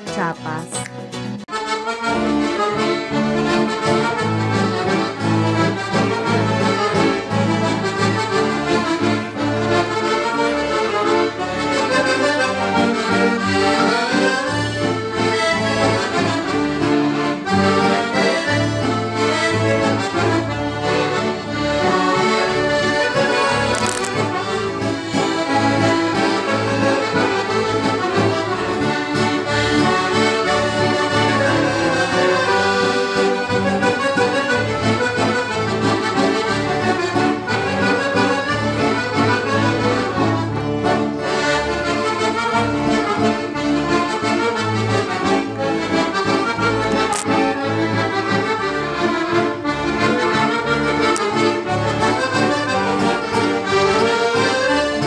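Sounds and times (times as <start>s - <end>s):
accordions playing lively tune: 0.0s - 55.0s
acoustic guitar: 0.0s - 55.0s.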